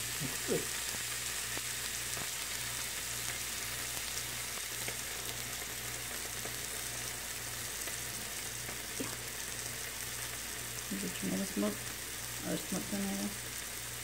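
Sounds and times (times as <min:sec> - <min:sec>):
sausage patties sizzling: 0:00.0 - 0:14.0.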